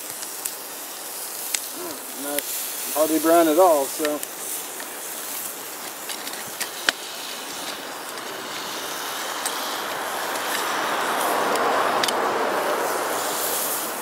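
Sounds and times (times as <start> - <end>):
campfire hissing: 0.0 - 14.0
pie iron sizzling: 0.0 - 14.0.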